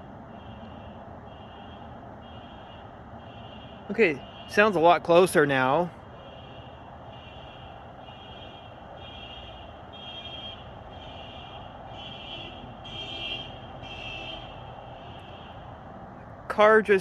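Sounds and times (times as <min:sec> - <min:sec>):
car alarm horn blasts: 0:00.3 - 0:15.7.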